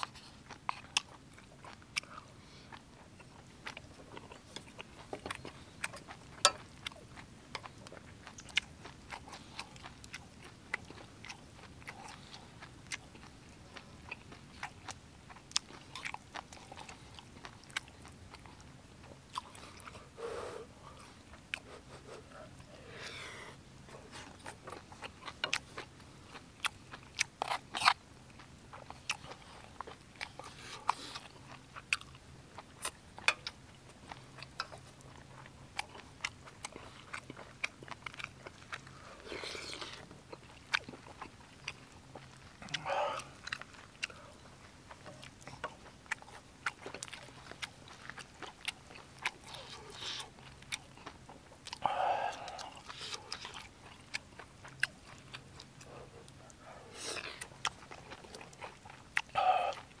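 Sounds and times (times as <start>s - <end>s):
chewing with wet mouth clicks: 0.0s - 60.0s
faint low hum: 0.0s - 60.0s.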